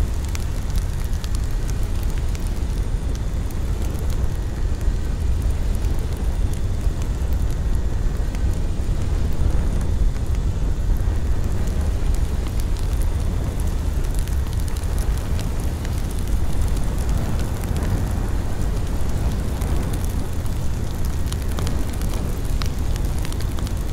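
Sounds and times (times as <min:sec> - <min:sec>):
low rumbling noise: 0:00.0 - 0:23.9.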